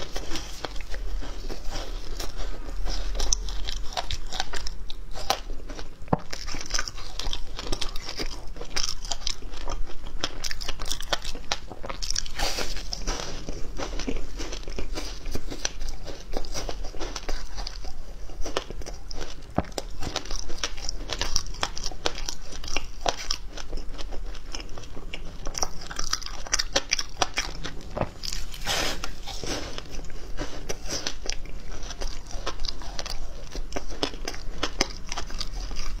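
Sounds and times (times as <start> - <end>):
ice crunching between teeth: 0.0 - 36.0.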